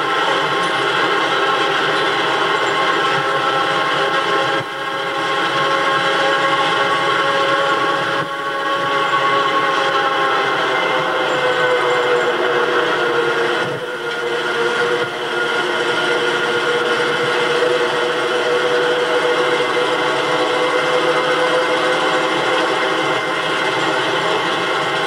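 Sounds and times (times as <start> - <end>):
car engine drone: 0.0 - 25.0
road noise: 0.0 - 25.0
whining tones: 0.0 - 25.0.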